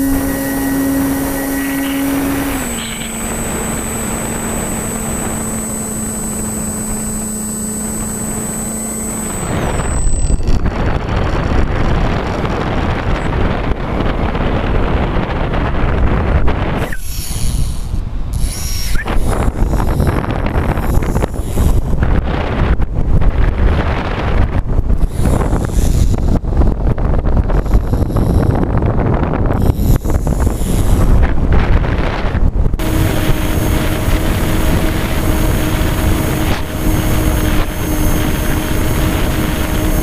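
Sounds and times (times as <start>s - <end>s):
electric motors and propellers droning: 0.0s - 40.0s
thin high whine: 0.0s - 40.0s
wind buffeting microphone: 0.0s - 40.0s.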